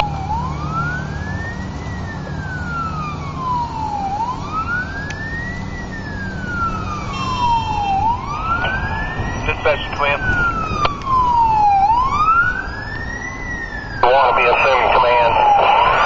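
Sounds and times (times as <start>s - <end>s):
fire truck siren wailing: 0.0s - 16.0s
truck engine drone: 0.0s - 16.0s.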